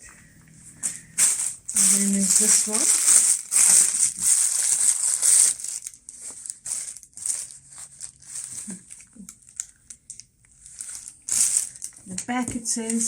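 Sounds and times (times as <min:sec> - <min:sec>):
packaging rustling: 0:00.8 - 0:13.0.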